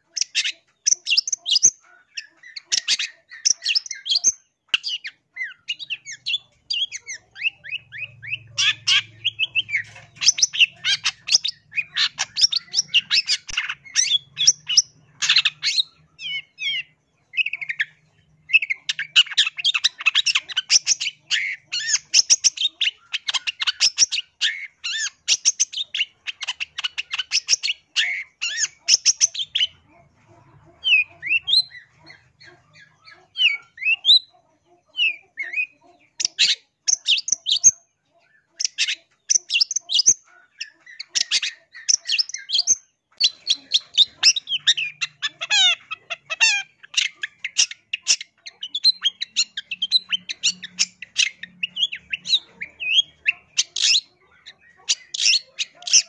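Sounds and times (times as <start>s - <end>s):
shrike chattering song: 0.0s - 37.8s, 38.5s - 56.0s.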